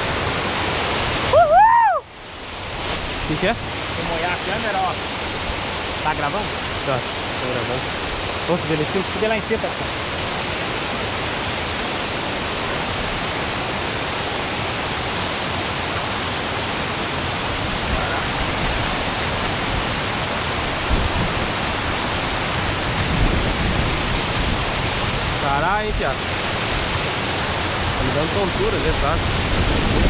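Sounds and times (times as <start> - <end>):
waterfall roaring over rocks: 0.0 - 30.0.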